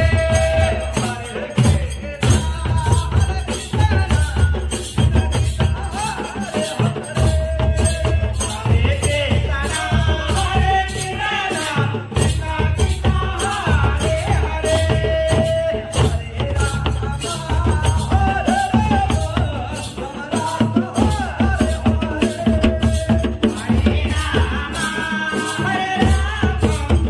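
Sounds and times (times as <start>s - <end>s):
barrel drums beaten rhythmically: 0.0s - 27.0s
jingling percussion: 0.0s - 27.0s
man singing through microphone: 0.0s - 27.0s.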